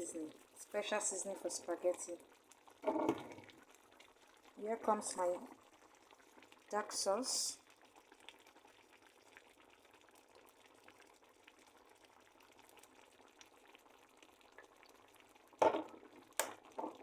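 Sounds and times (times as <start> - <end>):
sauce simmering and bubbling: 0.1 - 17.0.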